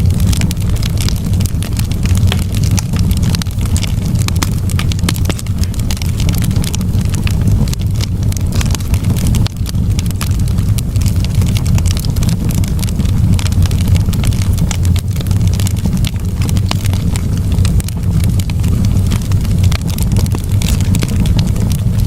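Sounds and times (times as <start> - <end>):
campfire crackling and popping: 0.0 - 22.0
steady low rumble: 0.0 - 22.0.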